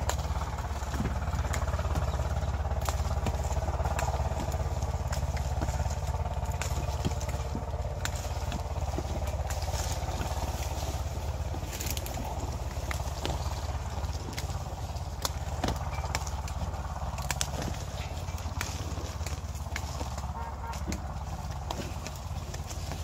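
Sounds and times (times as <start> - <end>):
engine running with low pulse: 0.0 - 23.0.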